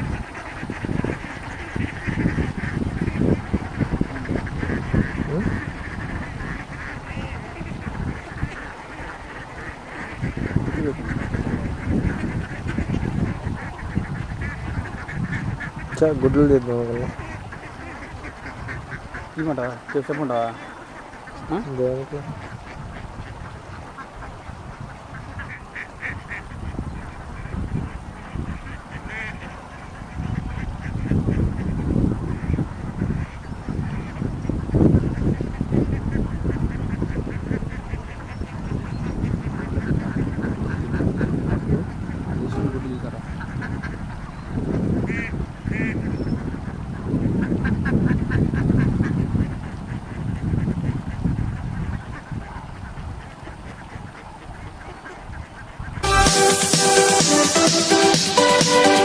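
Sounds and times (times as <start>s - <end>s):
ducks quacking: 0.0s - 59.0s.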